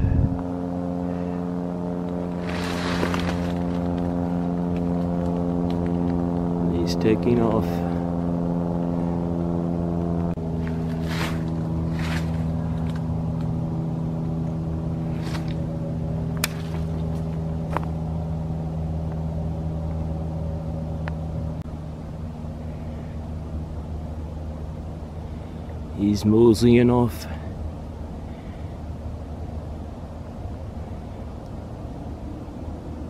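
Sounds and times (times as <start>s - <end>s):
steady motor drone: 0.0s - 33.0s.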